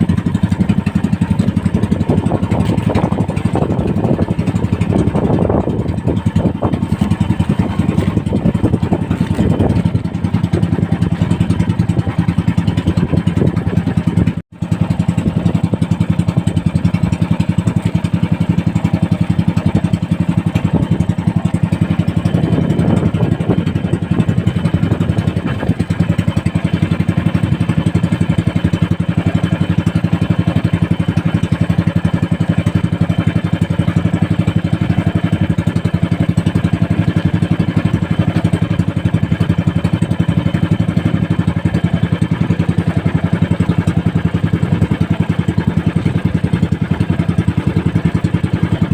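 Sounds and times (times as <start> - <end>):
small boat engine running: 0.0 - 48.9.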